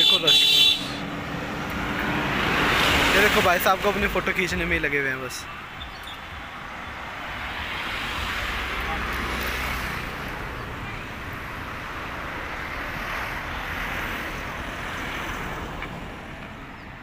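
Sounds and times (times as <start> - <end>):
passing car traffic: 0.0 - 17.0.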